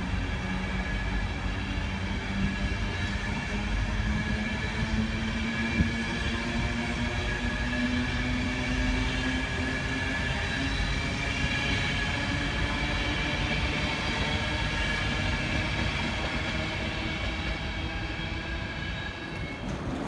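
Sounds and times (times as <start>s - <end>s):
high whine of train: 0.0s - 20.0s
train wheels on rails: 0.0s - 20.0s.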